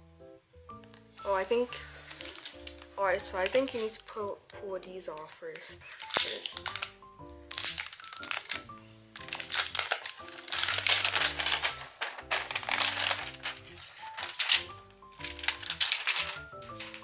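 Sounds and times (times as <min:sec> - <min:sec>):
background music: 0:00.0 - 0:17.0
plastic film crinkling: 0:00.8 - 0:17.0.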